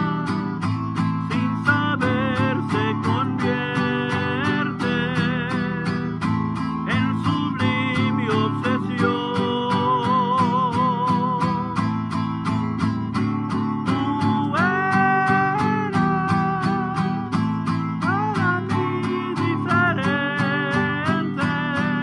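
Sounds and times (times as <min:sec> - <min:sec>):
man singing with vibrato: 0:00.0 - 0:12.2, 0:13.5 - 0:22.0
strummed acoustic guitar: 0:00.0 - 0:22.0.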